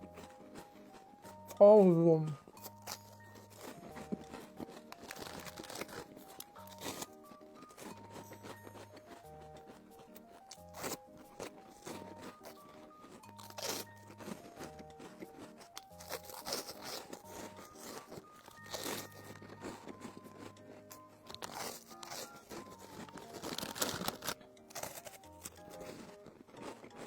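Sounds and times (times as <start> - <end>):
background music: 0.0 - 27.0
biscuit crunching: 0.0 - 27.0.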